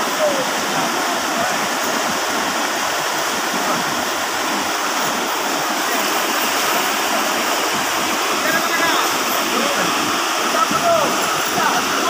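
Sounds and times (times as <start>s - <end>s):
river water rushing over boulders: 0.0s - 12.0s.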